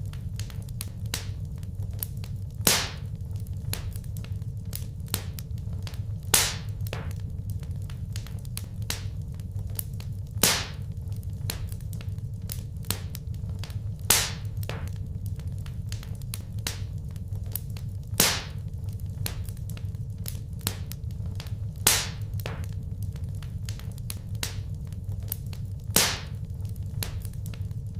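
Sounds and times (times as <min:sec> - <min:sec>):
fire popping: 0:00.0 - 0:27.9
wood fire crackling: 0:00.0 - 0:27.9.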